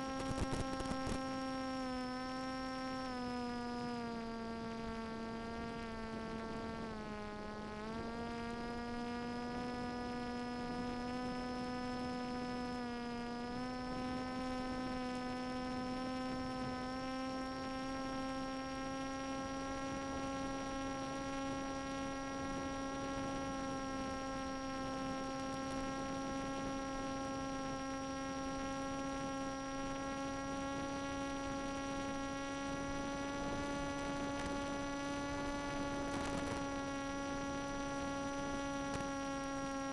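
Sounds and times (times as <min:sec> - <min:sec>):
electric motor and propeller droning: 0:00.0 - 0:39.9.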